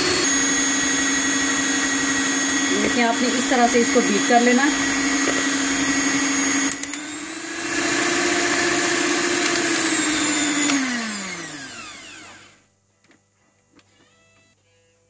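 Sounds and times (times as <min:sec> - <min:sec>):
electric hand mixer whining: 0:00.0 - 0:12.6.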